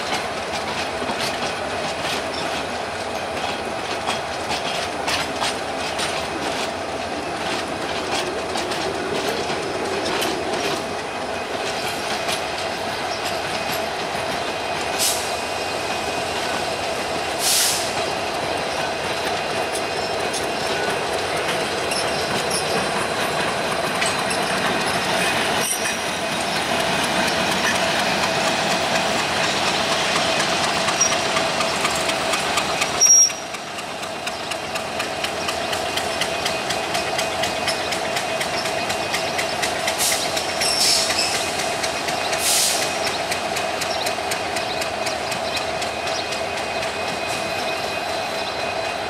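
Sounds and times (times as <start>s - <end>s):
diesel locomotive engine running: 0.0s - 49.0s
train wheels clicking over rail joints: 0.0s - 49.0s.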